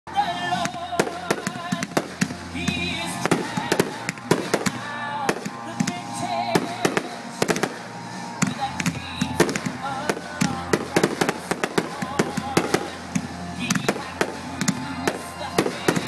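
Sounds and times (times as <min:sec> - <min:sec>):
music: 0:00.1 - 0:16.0
fireworks bangs: 0:00.2 - 0:16.0.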